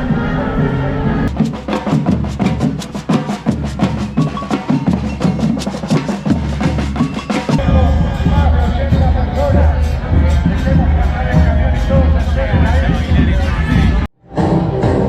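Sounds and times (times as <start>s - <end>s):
fast drum and wood-block strikes: 1.3s - 14.1s
pitched music backing: 1.3s - 15.0s.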